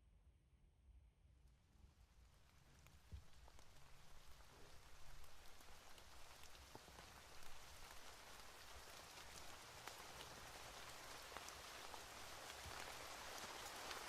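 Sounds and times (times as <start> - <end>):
faint steady rain: 1.5 - 14.0.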